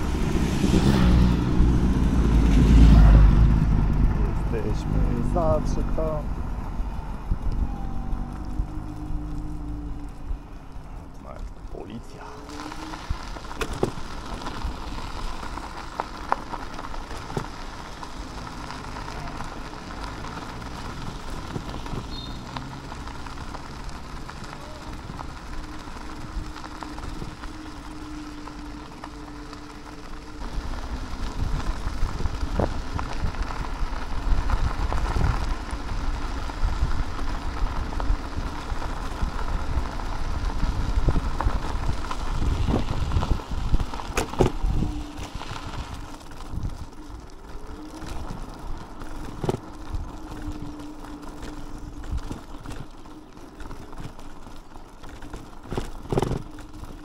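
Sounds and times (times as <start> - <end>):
low rumble: 0.0 - 52.7
tyre and road noise: 0.0 - 57.0.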